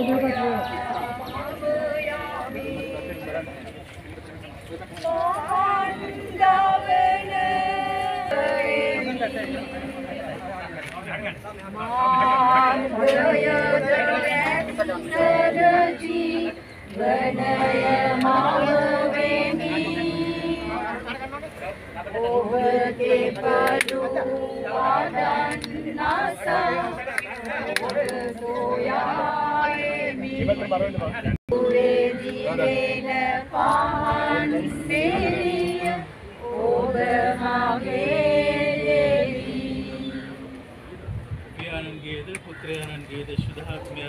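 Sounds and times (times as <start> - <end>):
voices singing slow melody: 0.0 - 3.9, 4.8 - 10.8, 11.7 - 41.1.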